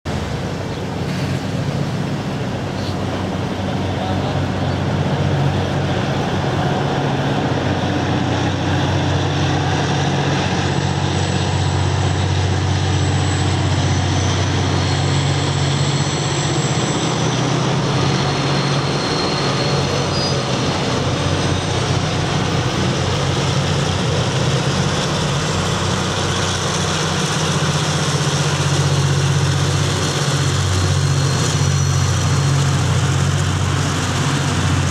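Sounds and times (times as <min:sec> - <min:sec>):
diesel locomotive engines droning: 0:00.1 - 0:34.9.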